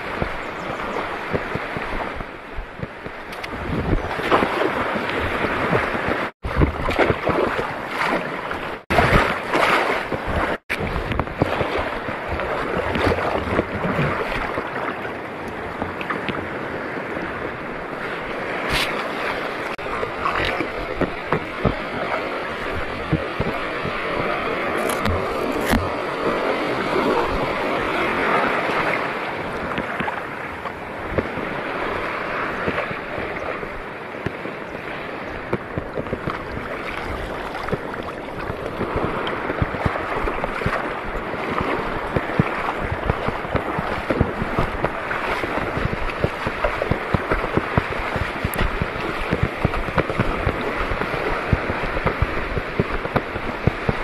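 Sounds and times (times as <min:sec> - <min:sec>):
seawater washing: 0:00.0 - 0:54.0
wind buffeting microphone: 0:00.0 - 0:54.0.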